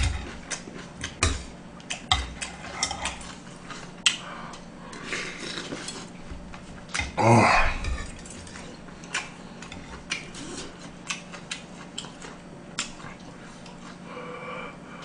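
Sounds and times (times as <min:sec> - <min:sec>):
eating sounds: 0:00.0 - 0:06.2, 0:06.8 - 0:15.0.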